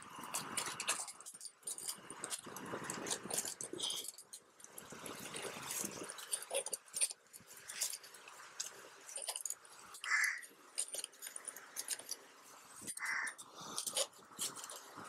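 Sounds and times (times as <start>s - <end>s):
metal parts clinking and tapping: 0.1s - 15.0s.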